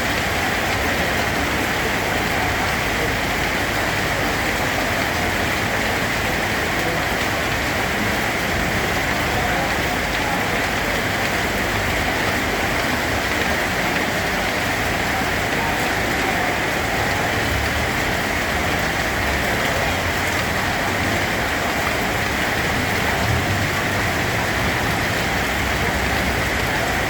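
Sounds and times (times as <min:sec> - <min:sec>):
heavy rainfall: 0:00.0 - 0:27.0.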